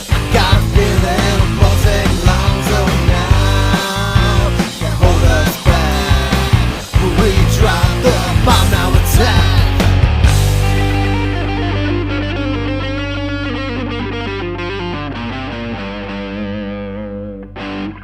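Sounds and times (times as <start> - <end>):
distorted electric guitar chords: 0.0 - 18.0
guitar strum: 0.0 - 18.0.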